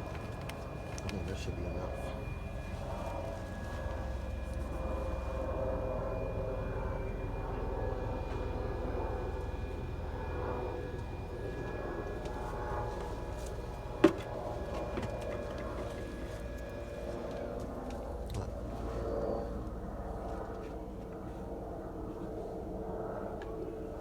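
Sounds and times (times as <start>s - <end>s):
distant engine drone: 0.0s - 24.0s.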